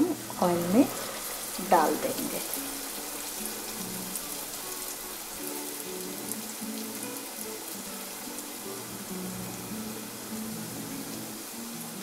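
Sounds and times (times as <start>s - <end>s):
food deep-frying in hot oil: 0.0s - 12.0s
soft background music: 0.0s - 12.0s.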